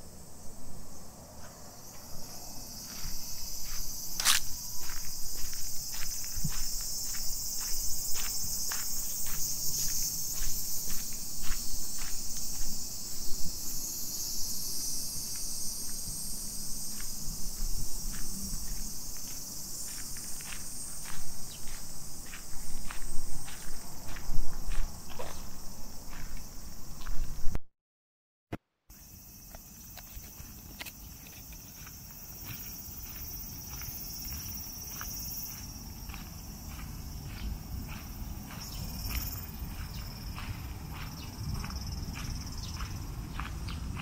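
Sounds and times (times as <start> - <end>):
cicadas chorus: 0.0 - 27.6, 28.9 - 44.0
footsteps on dirt path: 1.4 - 27.5, 29.0 - 44.0.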